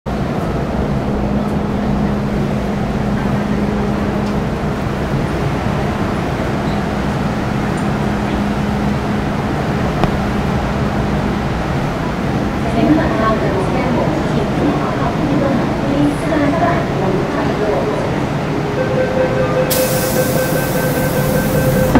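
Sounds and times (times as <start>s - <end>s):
electric train equipment humming: 0.2s - 21.9s.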